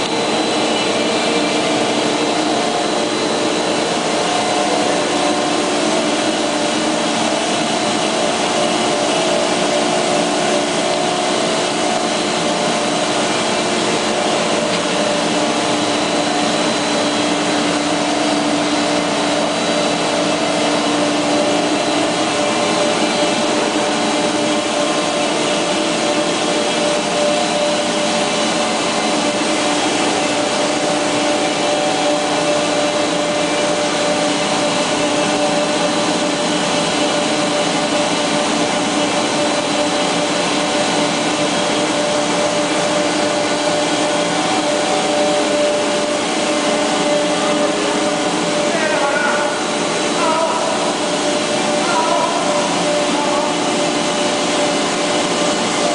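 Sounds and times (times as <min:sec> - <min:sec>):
machine drone with humming tones: 0:00.0 - 0:55.9.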